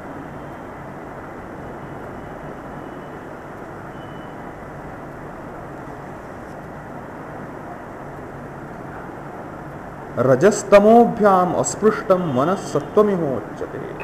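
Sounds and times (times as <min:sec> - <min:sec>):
background hiss and rumble: 0:00.0 - 0:14.0.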